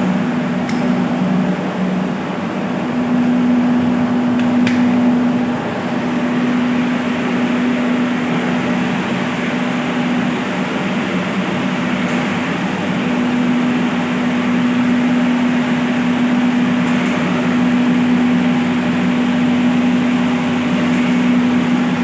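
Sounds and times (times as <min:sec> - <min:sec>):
electric water pumps humming: 0:00.0 - 0:22.0.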